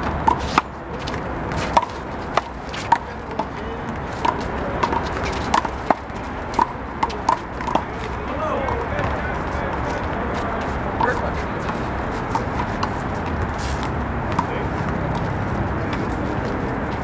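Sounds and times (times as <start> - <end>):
ball bouncing on court: 0.0 - 17.0.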